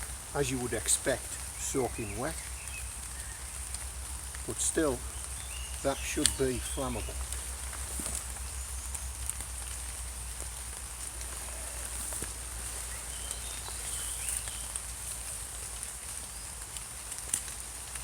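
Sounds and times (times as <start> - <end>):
drops ticking: 0.0 - 18.0
steady rain falling: 0.0 - 18.0.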